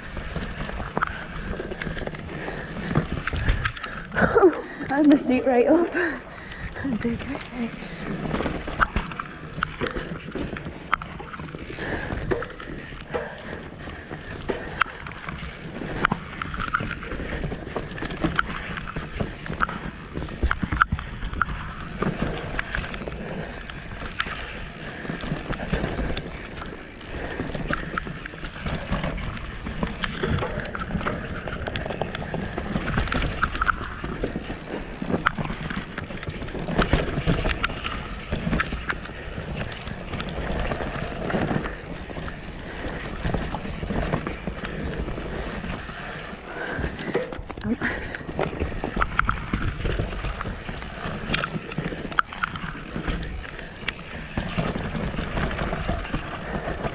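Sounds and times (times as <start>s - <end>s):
bike rattling and knocking: 0.0s - 56.9s
bike tyres rumbling on dirt: 0.0s - 56.9s.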